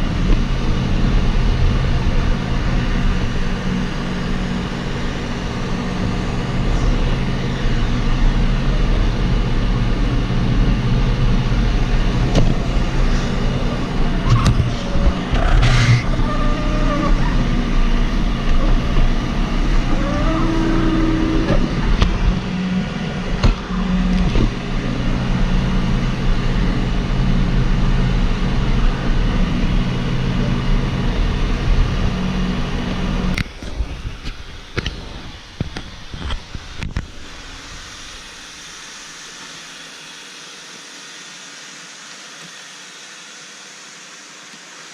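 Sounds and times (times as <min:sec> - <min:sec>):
robot vacuum humming: 0:00.0 - 0:32.6, 0:33.2 - 0:44.9.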